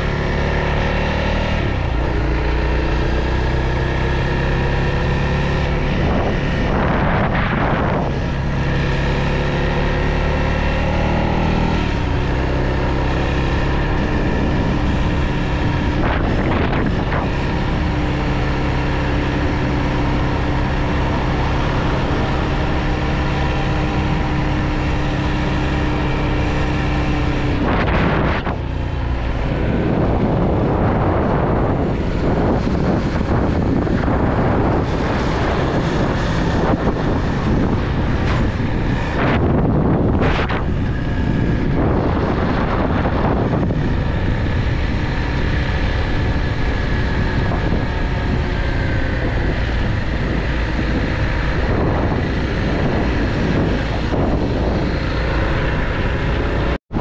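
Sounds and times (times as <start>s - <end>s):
motorcycle engine running: 0.0s - 57.0s
wind buffeting microphone: 1.3s - 57.0s.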